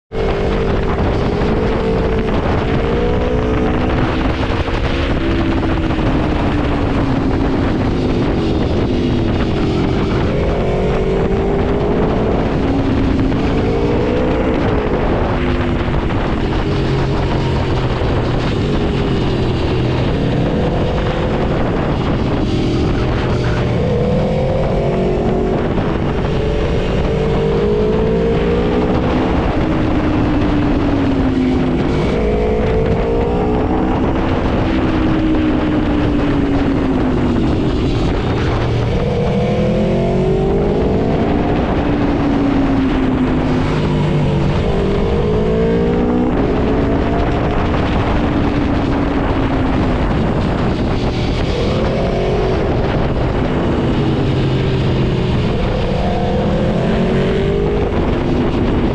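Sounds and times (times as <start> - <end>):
wind and road noise: 0.0 - 58.9
motorcycle engine accelerating: 0.1 - 58.9.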